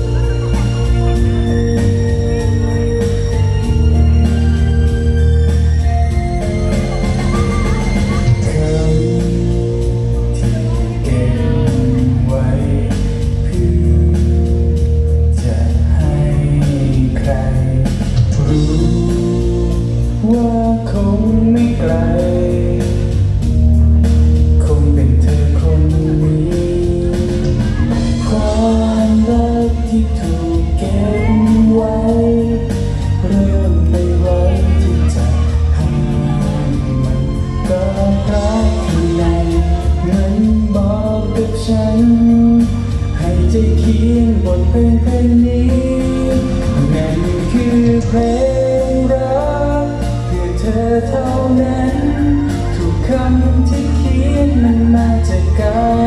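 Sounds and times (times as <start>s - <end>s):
backing track with bass: 0.0s - 56.0s
man singing into microphone: 5.4s - 56.0s.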